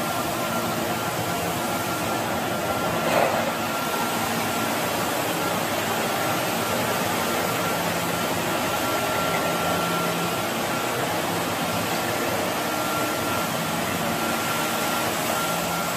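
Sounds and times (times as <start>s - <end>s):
floor scrubber humming: 0.0s - 15.9s
thin high whine: 0.0s - 15.9s.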